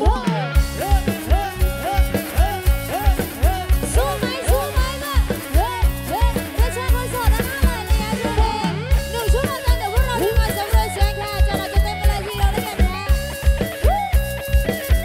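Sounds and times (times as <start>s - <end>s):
drum kit kick beat: 0.0s - 15.0s
electric guitar: 0.0s - 15.0s
keyboard: 0.0s - 15.0s
lead melody with pitch bends: 0.6s - 15.0s.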